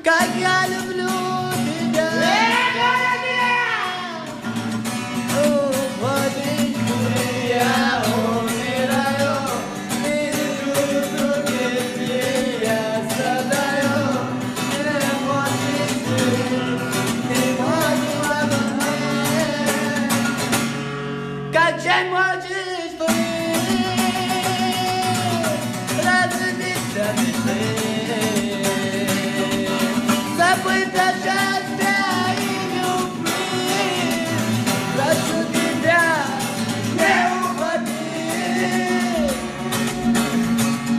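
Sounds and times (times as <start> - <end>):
person singing: 0.0 - 20.6, 21.5 - 40.9
guitar accompaniment: 0.0 - 40.9.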